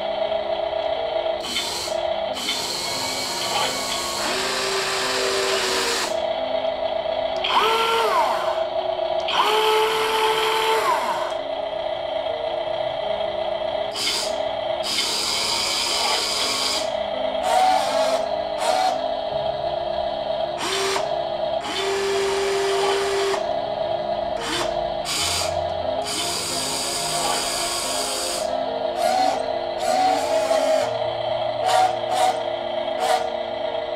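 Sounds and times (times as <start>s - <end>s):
toy excavator electric motors whining: 0.0s - 33.9s.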